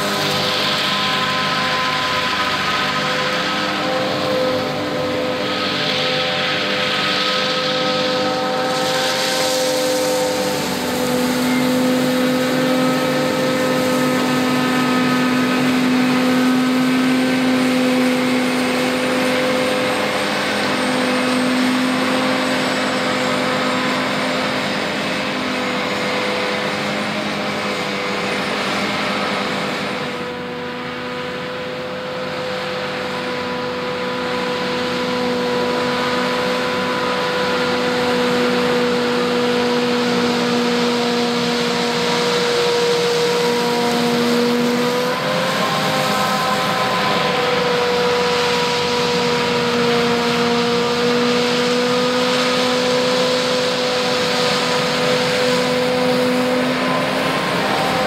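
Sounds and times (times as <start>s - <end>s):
forage harvester drone: 0.0s - 58.0s.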